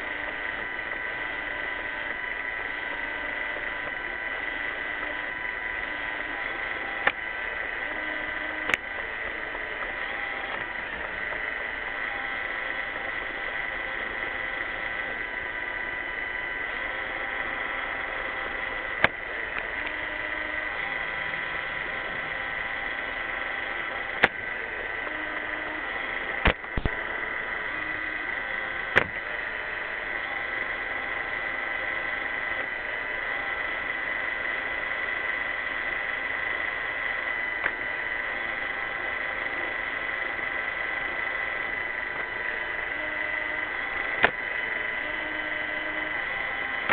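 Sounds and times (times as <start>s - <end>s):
robot vacuum whining: 0.0s - 46.9s.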